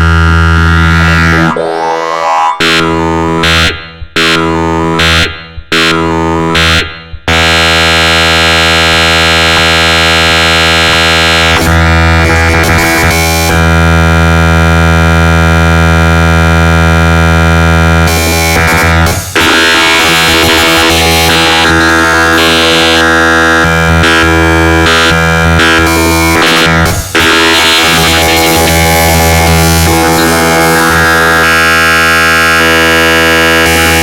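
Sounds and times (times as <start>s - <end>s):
dense synthesized midi music: 0.0s - 14.4s, 18.1s - 34.0s.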